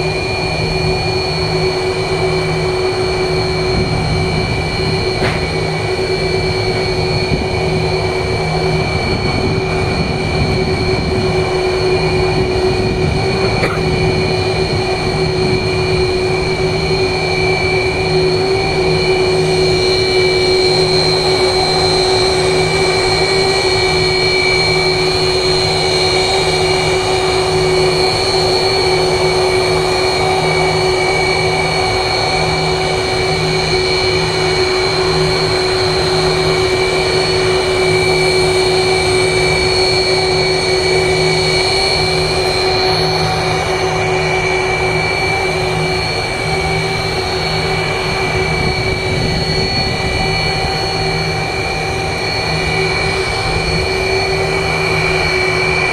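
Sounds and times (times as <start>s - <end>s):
jet engines whining and rumbling: 0.0s - 55.9s.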